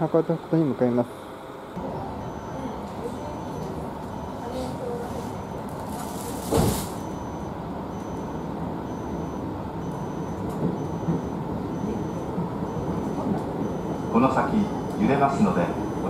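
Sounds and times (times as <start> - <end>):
train cabin rumble and hum: 1.7 - 16.0.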